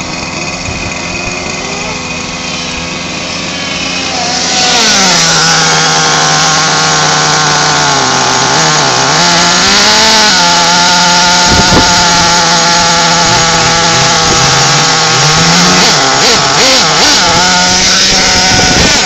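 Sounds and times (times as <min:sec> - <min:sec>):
small nitro engine buzzing: 0:00.0 - 0:19.0.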